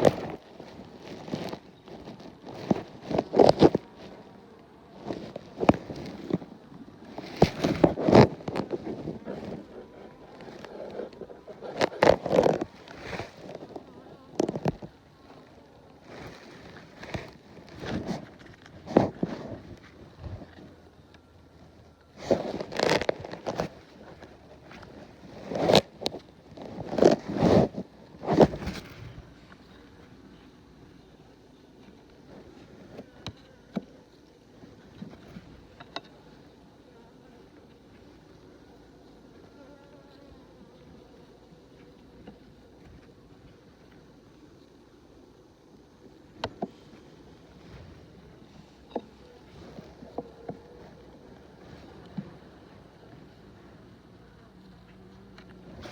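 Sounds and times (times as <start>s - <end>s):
fabric rustling against microphone: 0.0s - 55.9s
honey bees buzzing: 0.0s - 55.9s.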